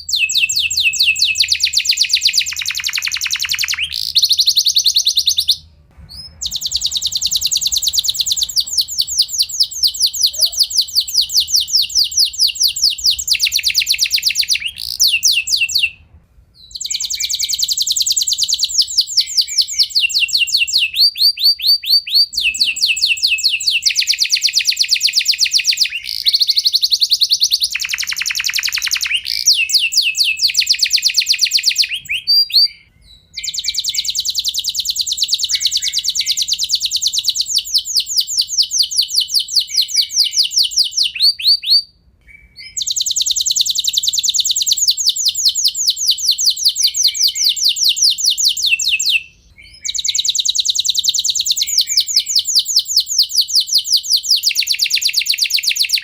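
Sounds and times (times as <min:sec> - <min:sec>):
canary singing trills: 0:00.0 - 0:16.0, 0:16.6 - 0:56.0.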